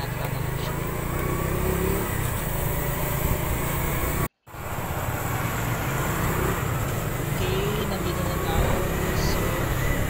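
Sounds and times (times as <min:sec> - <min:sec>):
motorcycle engine and road noise: 0:00.0 - 0:10.0.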